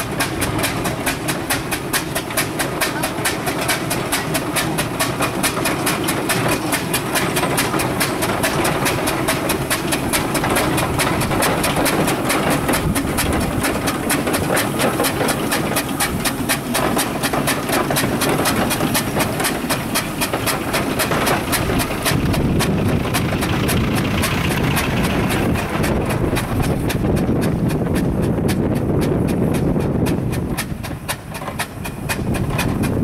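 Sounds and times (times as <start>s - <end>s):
mechanical rumble: 0.0s - 33.0s
steam engine exhaust chuffing: 0.0s - 33.0s.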